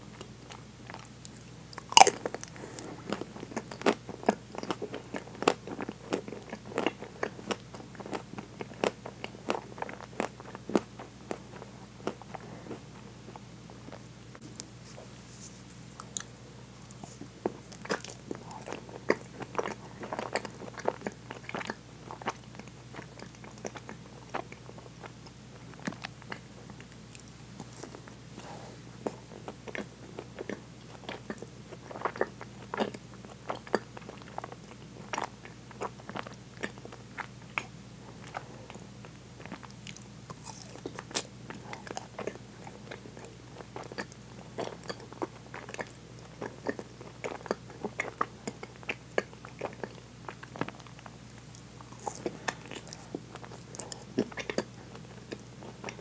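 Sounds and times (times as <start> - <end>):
crunchy biting and chewing: 0.2 - 14.6, 16.0 - 56.0.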